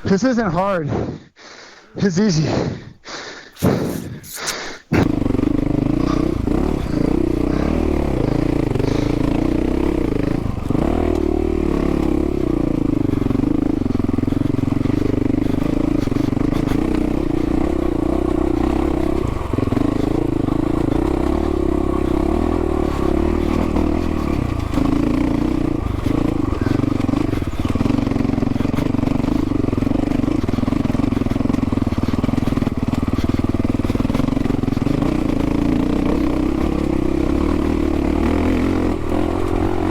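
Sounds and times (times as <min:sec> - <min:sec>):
motorcycle engine under load: 0:04.9 - 0:39.9.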